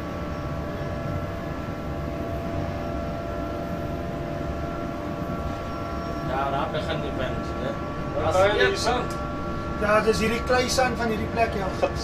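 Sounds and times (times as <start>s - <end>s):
locomotive cab rumble with whining tones: 0.0s - 12.0s.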